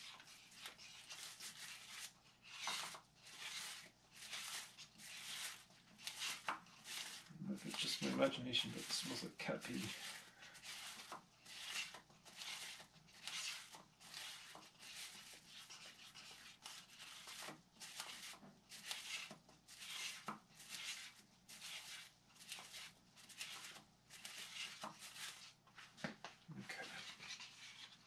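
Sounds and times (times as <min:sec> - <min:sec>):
faint rubbing strokes: 0:00.0 - 0:25.9, 0:26.6 - 0:28.0.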